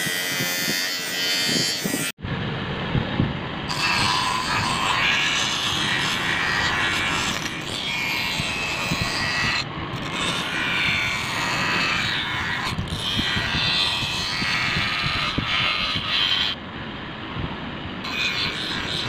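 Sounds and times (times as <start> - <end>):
knife blade on bench grinder: 0.0 - 2.2, 3.7 - 16.6, 18.0 - 19.0.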